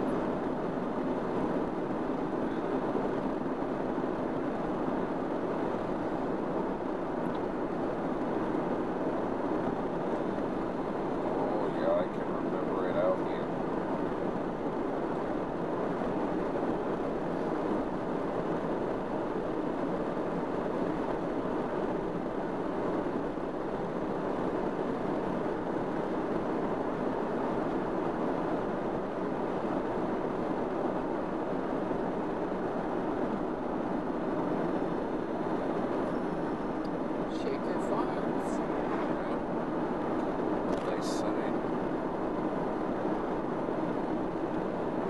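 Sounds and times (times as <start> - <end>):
car engine and tyre road noise: 0.0 - 45.0.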